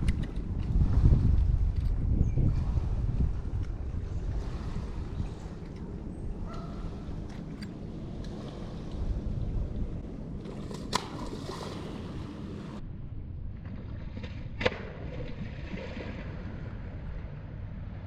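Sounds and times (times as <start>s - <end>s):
water and wind rumble: 0.0s - 18.0s.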